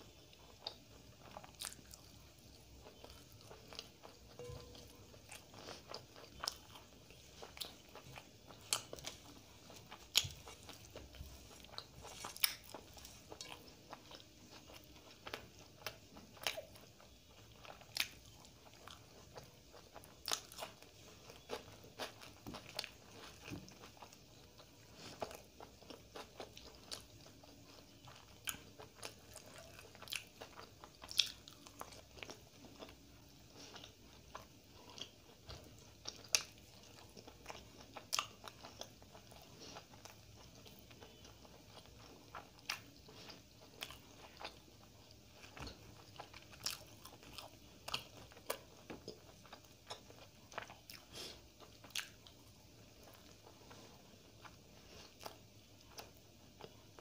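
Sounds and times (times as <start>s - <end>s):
chewing and mouth smacks: 0.4s - 57.0s.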